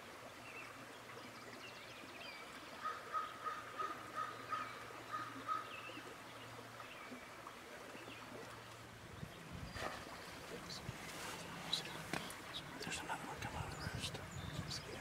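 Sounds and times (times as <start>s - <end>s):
faint songbird chirps: 0.2s - 15.0s.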